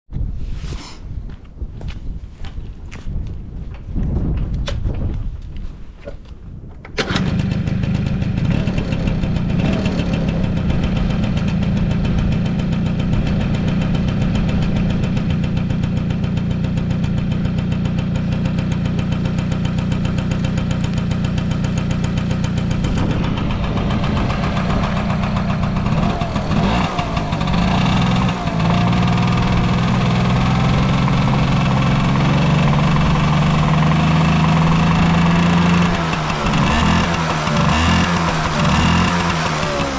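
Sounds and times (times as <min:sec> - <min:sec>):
scooter engine idling: 0:07.0 - 0:39.9
scooter engine revving: 0:07.0 - 0:39.9.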